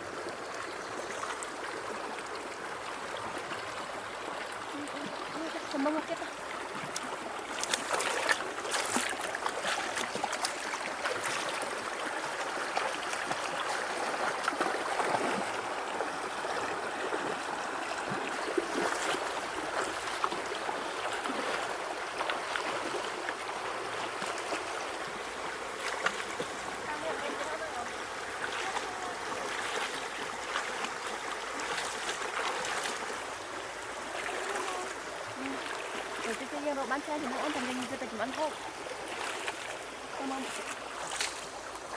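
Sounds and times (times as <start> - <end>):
shallow river water babbling: 0.0 - 41.9
water splashing: 3.2 - 41.9.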